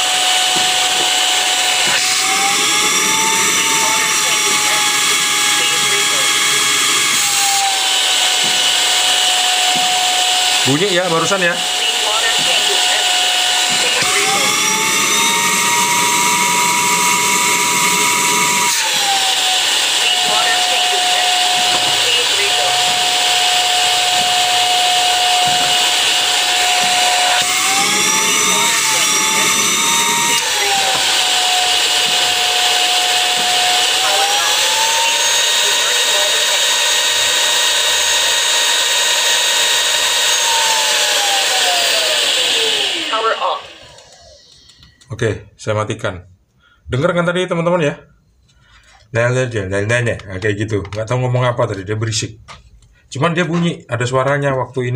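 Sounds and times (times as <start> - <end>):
floor cleaner suction motor whine: 0.0 - 45.0.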